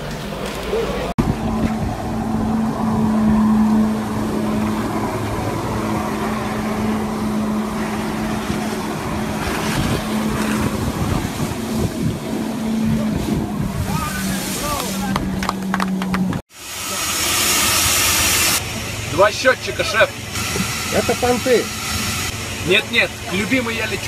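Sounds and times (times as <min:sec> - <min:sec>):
water jets rushing: 0:00.0 - 0:24.0
jet ski engine at high revs: 0:00.6 - 0:24.0.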